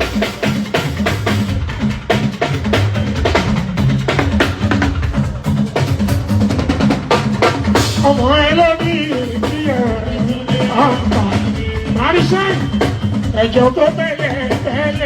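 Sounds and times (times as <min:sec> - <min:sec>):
drum and percussion strikes: 0:00.0 - 0:15.0
steady bass line: 0:00.0 - 0:15.0.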